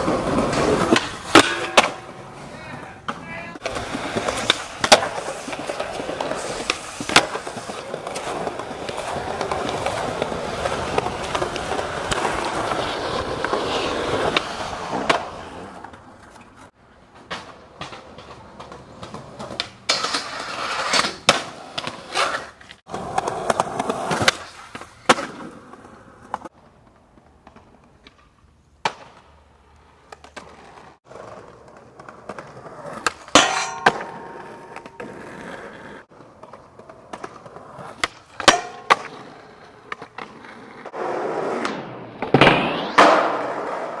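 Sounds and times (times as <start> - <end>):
skateboard wheels rolling on concrete: 0.0 - 44.0
skateboard tail cracks: 3.1 - 16.5, 17.1 - 44.0.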